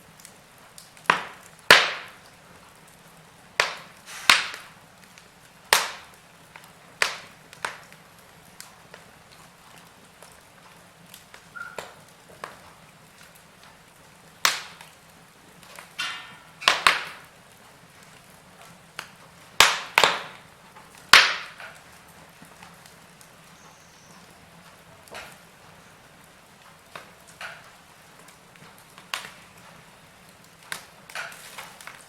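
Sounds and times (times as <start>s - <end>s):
faint steady hiss: 0.0s - 32.0s
wood fire crackling and popping: 0.0s - 32.0s.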